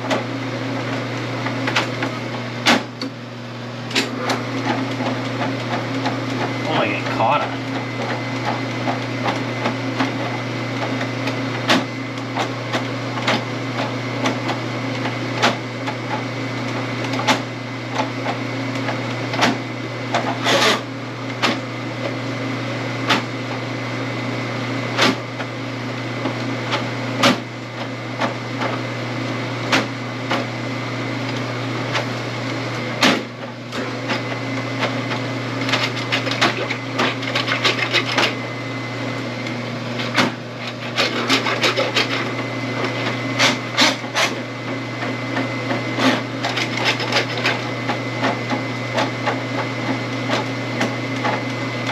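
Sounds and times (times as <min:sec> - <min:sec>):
drain auger motor running: 0:00.0 - 0:23.0, 0:25.2 - 0:51.9.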